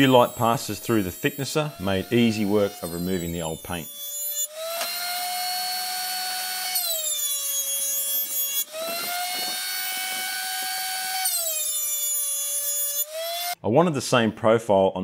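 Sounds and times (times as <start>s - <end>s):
thickness planer motor whine: 0.0s - 13.6s.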